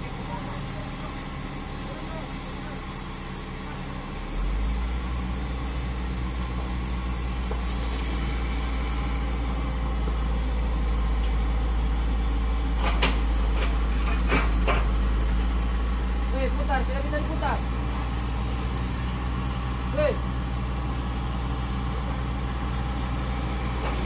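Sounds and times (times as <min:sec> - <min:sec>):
mini excavator diesel engine: 0:00.0 - 0:24.0.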